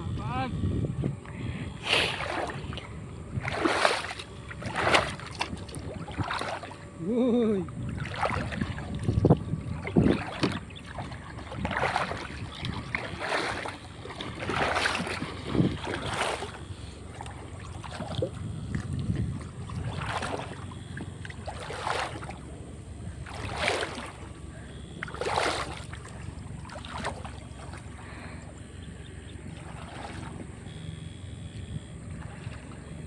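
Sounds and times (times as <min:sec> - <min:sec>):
shallow water splashing: 0:01.4 - 0:33.0.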